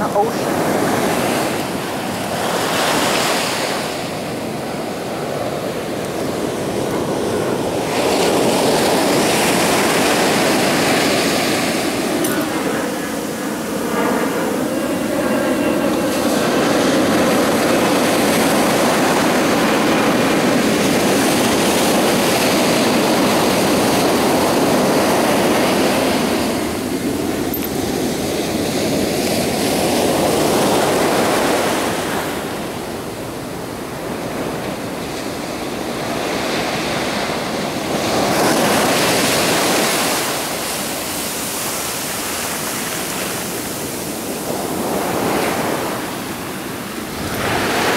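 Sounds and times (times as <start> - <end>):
ocean waves washing in: 0.0 - 47.9.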